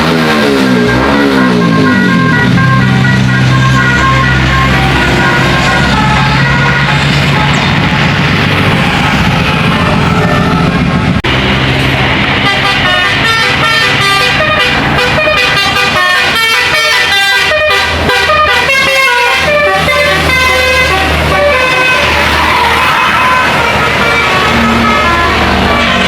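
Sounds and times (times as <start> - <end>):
bus engine running: 0.0 - 26.0
multi-tone musical horn: 0.1 - 8.0, 12.4 - 26.0.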